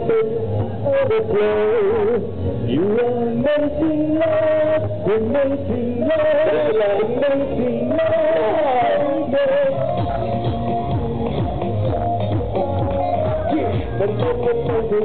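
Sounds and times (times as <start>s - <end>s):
loud amplified backing music: 0.0s - 15.0s
men singing into microphones: 0.0s - 15.0s.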